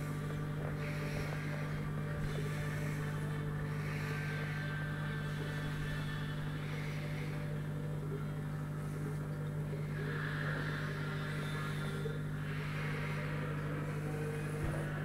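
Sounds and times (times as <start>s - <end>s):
aquarium equipment hum: 0.0s - 15.0s.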